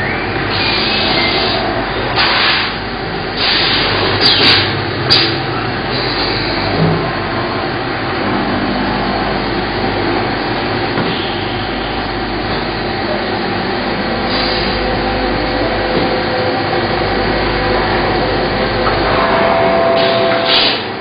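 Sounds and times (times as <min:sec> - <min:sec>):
lathes whirring hum: 0:00.0 - 0:21.0.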